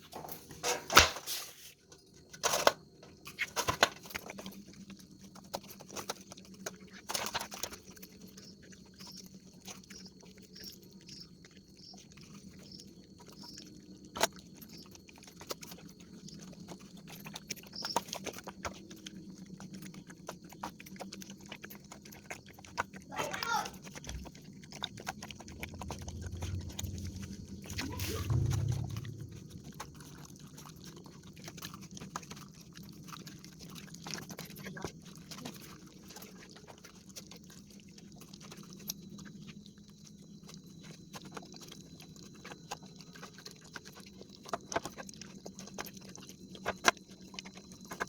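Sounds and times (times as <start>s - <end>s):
dog chewing melon: 4.0s - 48.0s.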